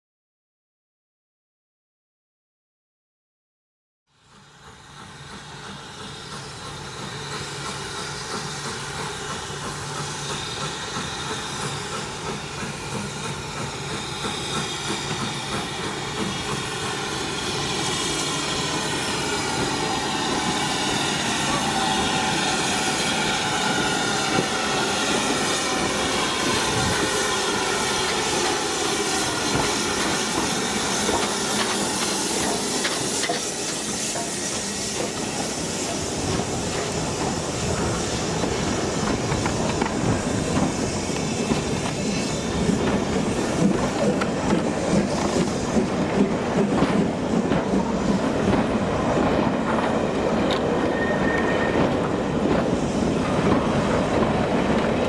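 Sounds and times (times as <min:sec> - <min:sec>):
steam train passing: 0:04.1 - 0:55.0
steam hissing: 0:04.2 - 0:55.0.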